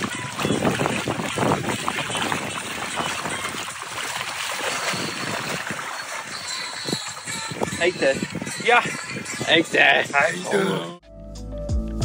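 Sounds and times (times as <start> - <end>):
water splashing around waders: 0.0 - 10.1.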